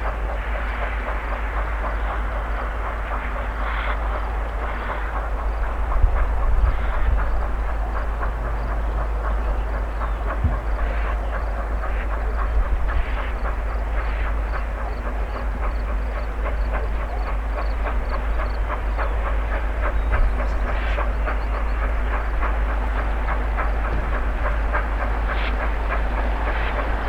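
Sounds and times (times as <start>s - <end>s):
steam train clattering: 0.0s - 27.0s.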